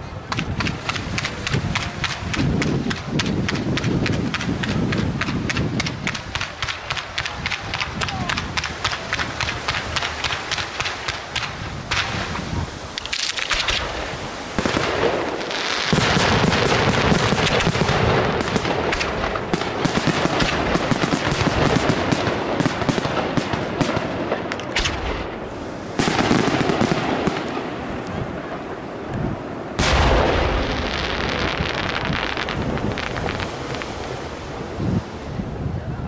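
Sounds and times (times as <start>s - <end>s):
fireworks bursting bangs: 0.0s - 35.4s.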